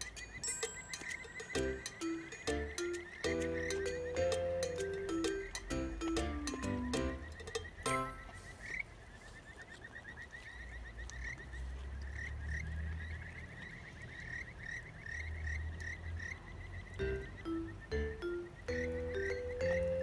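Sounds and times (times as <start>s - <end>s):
frogs trilling: 0.0s - 20.0s.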